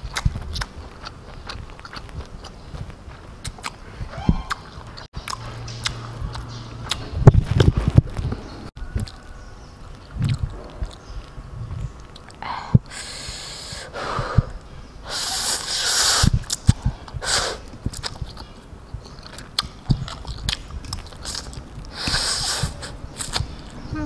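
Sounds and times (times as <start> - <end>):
wet chewing: 0.0 - 7.8, 8.8 - 12.4, 15.6 - 23.8.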